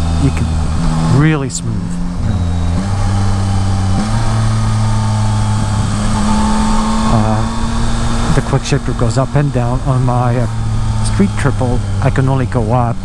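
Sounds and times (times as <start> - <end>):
motorcycle engine downshifting: 0.0 - 13.0
wind and road noise: 0.0 - 13.0.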